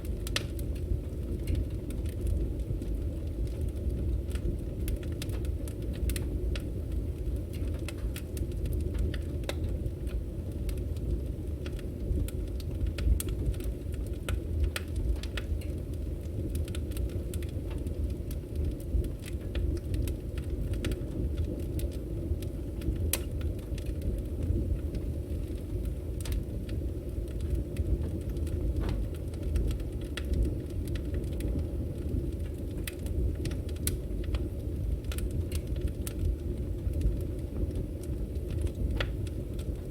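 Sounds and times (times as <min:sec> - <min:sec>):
firewood crackling and popping: 0:00.0 - 0:39.9
low fire rumble: 0:00.0 - 0:39.9.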